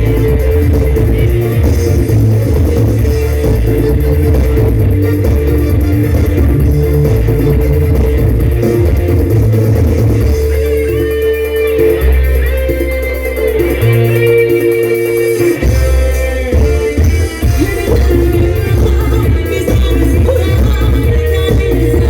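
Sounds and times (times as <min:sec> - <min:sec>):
held bass notes: 0:00.0 - 0:22.0.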